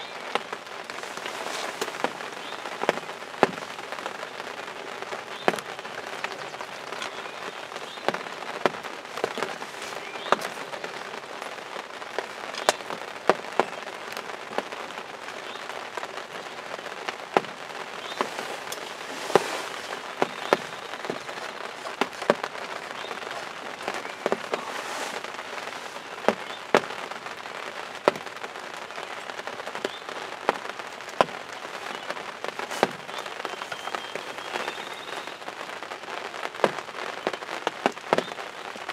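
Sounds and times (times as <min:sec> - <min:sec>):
rain hiss: 0:00.0 - 0:38.9
raindrops tapping on fabric: 0:00.0 - 0:38.9.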